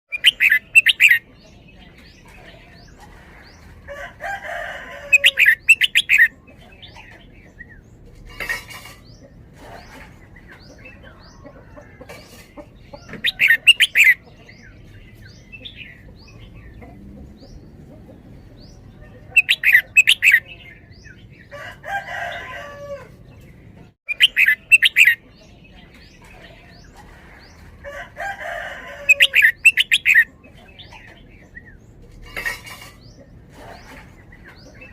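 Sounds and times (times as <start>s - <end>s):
faint chirps of other birds: 0.1s - 34.9s.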